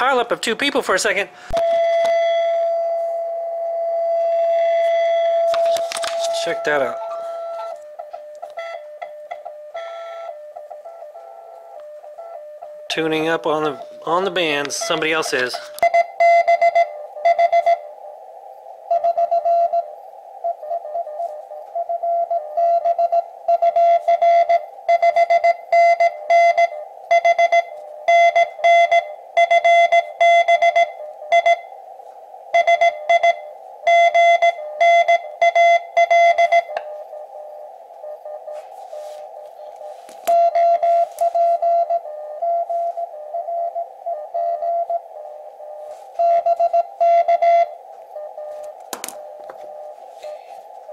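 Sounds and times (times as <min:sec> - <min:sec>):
receiver hiss: 0:00.0 - 0:50.9
morse code tone: 0:01.5 - 0:17.9, 0:18.9 - 0:31.8, 0:32.5 - 0:50.9.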